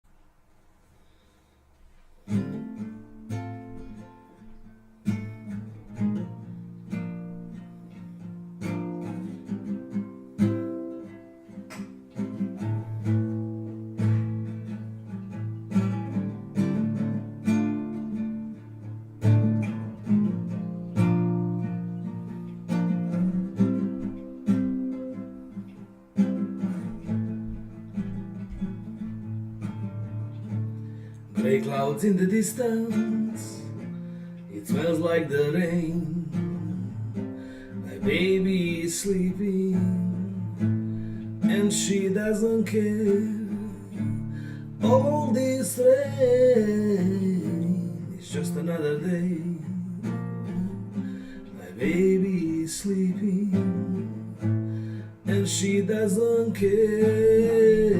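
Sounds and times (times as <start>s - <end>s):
acoustic guitar strumming: 1.0s - 57.9s.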